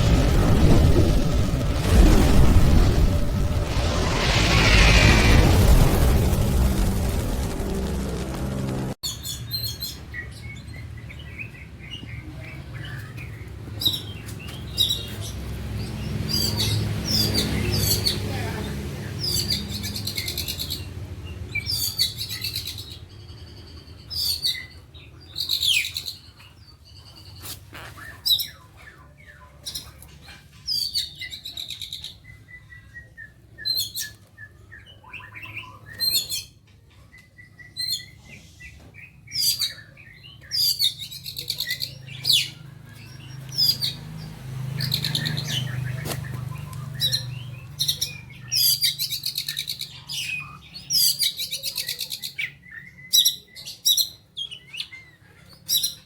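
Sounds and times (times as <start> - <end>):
songbirds chirping and singing: 9.0 - 56.0.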